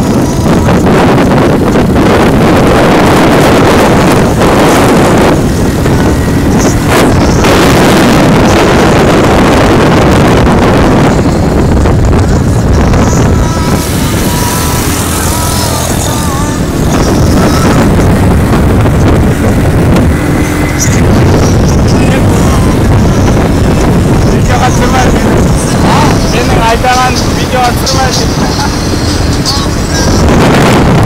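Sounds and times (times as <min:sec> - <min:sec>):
motorcycle engine: 0:00.0 - 0:31.0
road noise: 0:00.0 - 0:31.0
wind buffeting microphone: 0:00.0 - 0:31.0.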